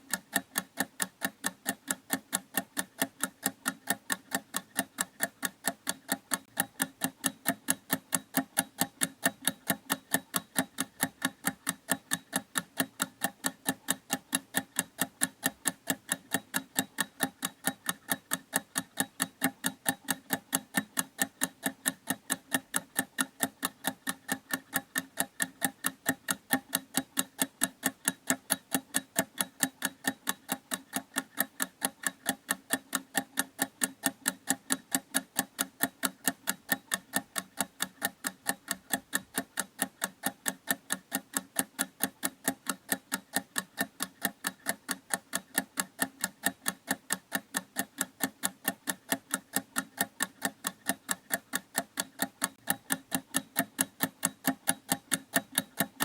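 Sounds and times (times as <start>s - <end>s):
clock ticking fast: 0.0s - 56.0s.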